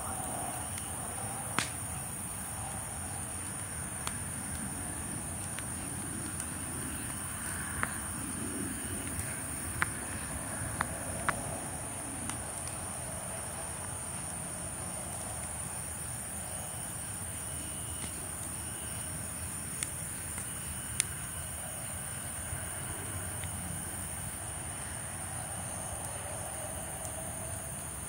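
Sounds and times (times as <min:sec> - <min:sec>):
insect chorus: 0:00.0 - 0:28.0
wood fire popping and crackling: 0:00.0 - 0:28.0.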